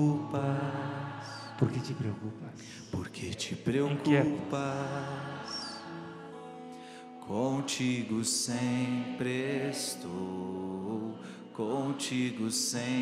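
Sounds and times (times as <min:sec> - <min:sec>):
person singing slow song: 0:00.0 - 0:13.0.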